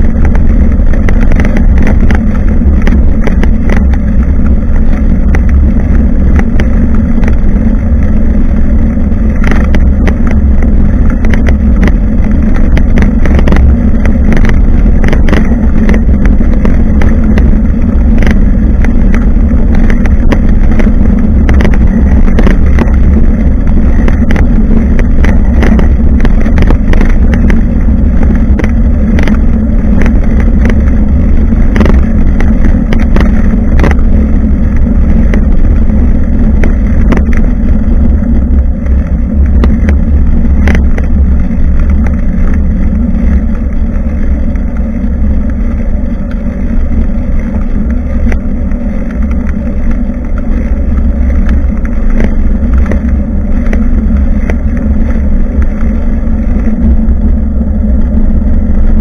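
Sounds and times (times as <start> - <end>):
bike clicks and rattles: 0.0 - 58.9
road vibration rumble: 0.0 - 59.0.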